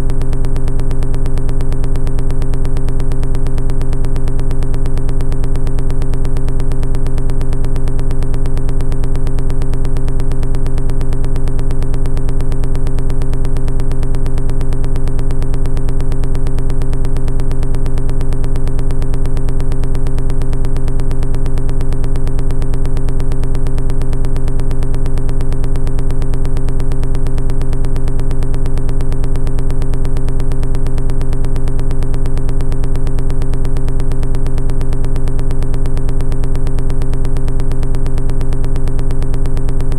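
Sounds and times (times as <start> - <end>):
synthesizer drone with fast pulse: 0.0 - 39.9.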